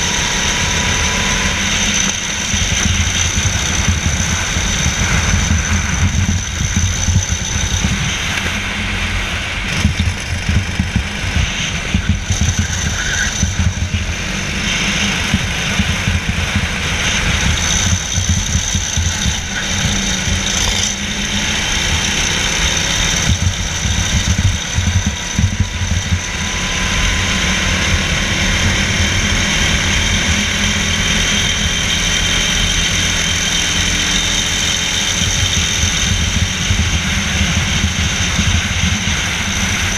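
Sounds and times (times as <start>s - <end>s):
go-kart engine running flat out: 0.0s - 39.9s.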